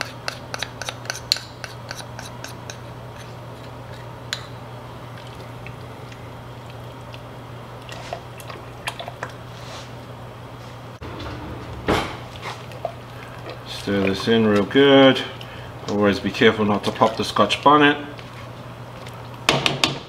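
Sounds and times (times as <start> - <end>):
steady low hum: 0.0 - 19.7.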